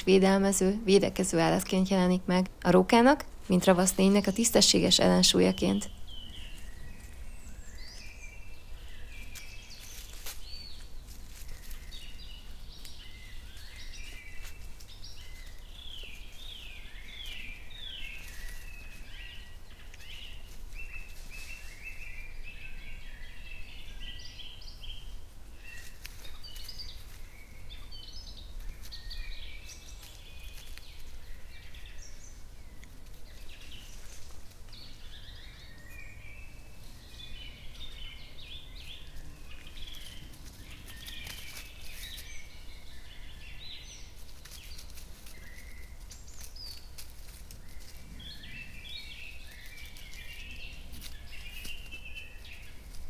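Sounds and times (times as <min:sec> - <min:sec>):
songbirds singing and chirping: 0:00.0 - 0:53.0.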